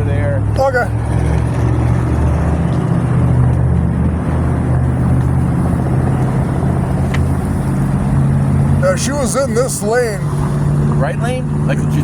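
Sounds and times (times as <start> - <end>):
diesel truck engine idling: 0.1 - 12.0.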